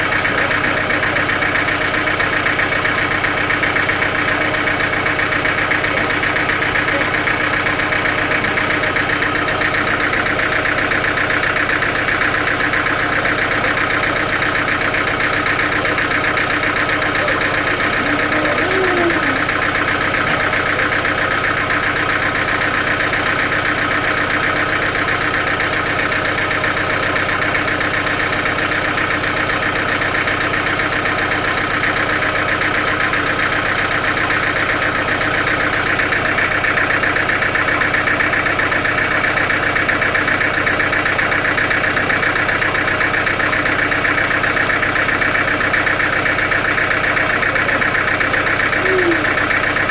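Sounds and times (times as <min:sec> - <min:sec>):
sawmill machinery droning: 0:00.0 - 0:49.9.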